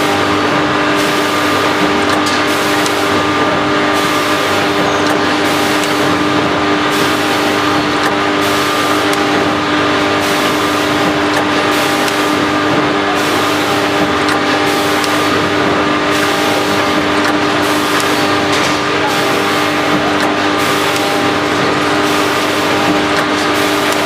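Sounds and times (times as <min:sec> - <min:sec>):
packaging machine humming: 0:00.0 - 0:24.0.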